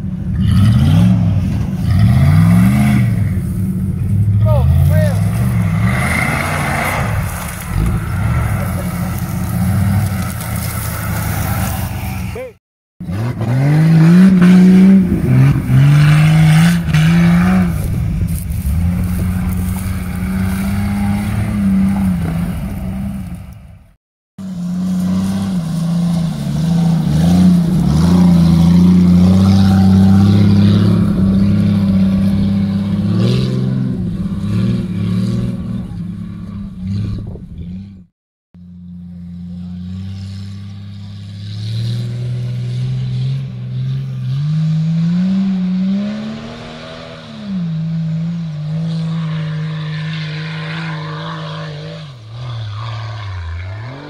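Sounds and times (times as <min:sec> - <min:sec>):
off-road engines revving: 0:00.0 - 0:54.0.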